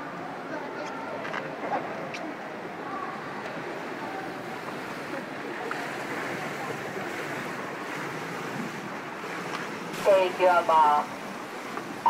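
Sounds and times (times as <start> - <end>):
faint indistinct voices: 0.0 - 11.2
water splashing in pool: 0.9 - 12.0.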